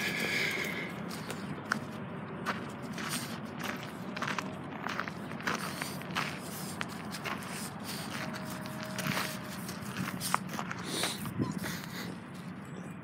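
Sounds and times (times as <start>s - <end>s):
footsteps on gravelly dirt path: 0.0s - 13.0s.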